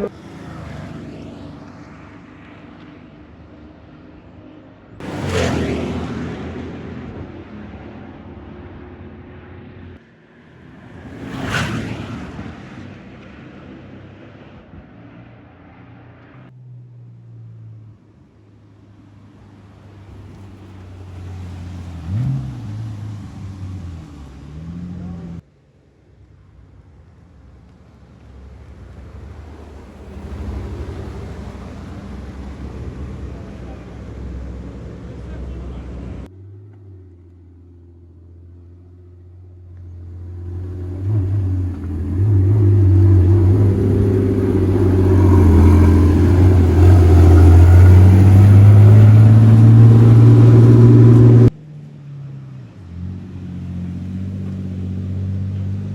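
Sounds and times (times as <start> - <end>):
race cars driving past: 0.0 - 25.4, 27.1 - 55.9.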